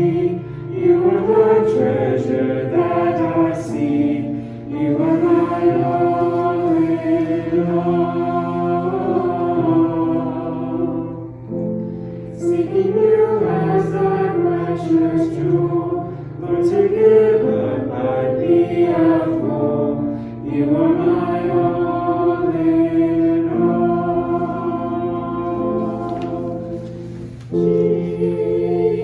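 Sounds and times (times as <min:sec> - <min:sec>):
choir singing slow song: 0:00.0 - 0:29.0.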